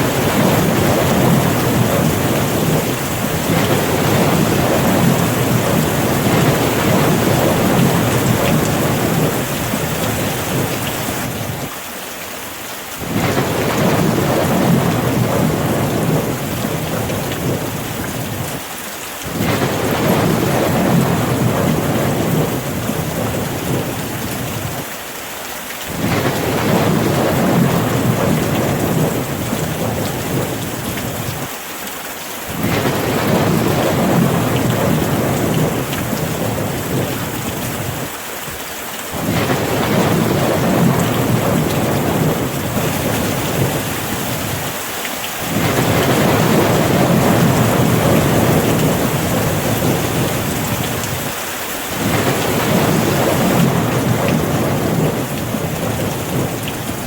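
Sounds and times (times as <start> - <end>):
low rumbling thunder: 0.0 - 11.7, 13.0 - 18.6, 19.3 - 24.8, 25.9 - 31.5, 32.5 - 38.1, 39.1 - 44.8, 45.4 - 57.0
rain falling: 0.0 - 57.0.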